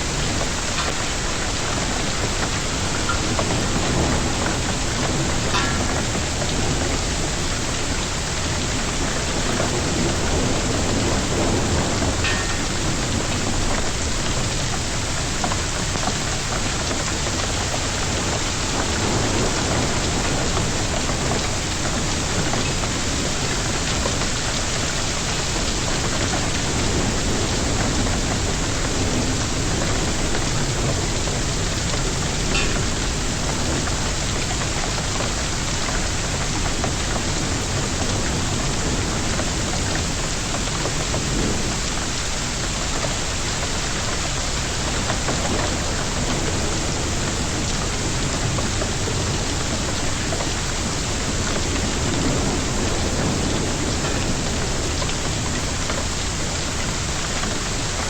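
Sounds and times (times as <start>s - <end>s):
hail and rain beating down: 0.0s - 58.0s
hailstones ticking: 0.0s - 58.0s.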